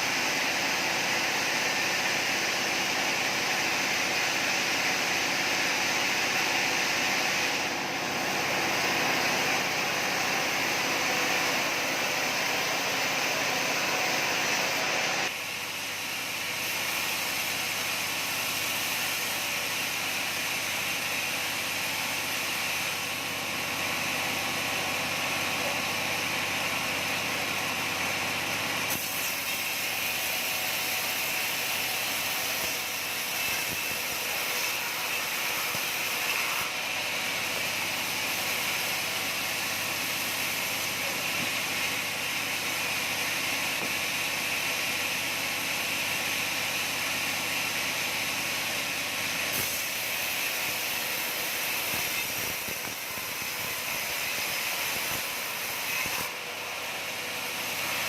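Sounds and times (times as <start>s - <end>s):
sawmill saw whining through log: 0.0s - 58.0s.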